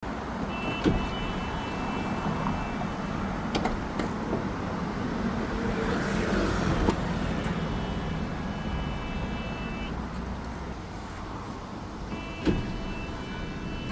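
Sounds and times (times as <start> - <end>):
vehicle running noise: 0.0 - 13.9.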